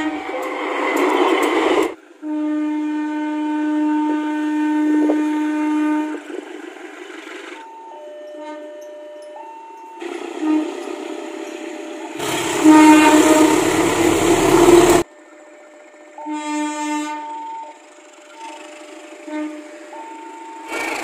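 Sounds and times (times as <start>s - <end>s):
train air horn blaring: 0.0s - 6.4s, 8.3s - 8.9s, 10.0s - 15.1s, 16.2s - 21.0s
deep rumble of train: 0.0s - 15.1s, 15.7s - 21.0s.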